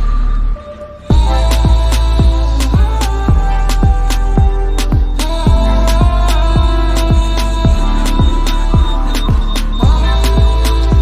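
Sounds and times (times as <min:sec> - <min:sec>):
sustained synth chords: 0:00.0 - 0:11.0
kick drum and hi-hats: 0:01.1 - 0:11.0.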